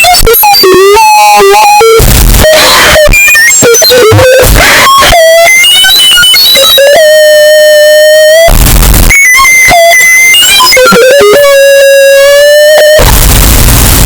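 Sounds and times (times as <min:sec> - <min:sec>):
harsh electronic beeps: 0:00.0 - 0:14.0
held electronic tone: 0:00.0 - 0:14.0.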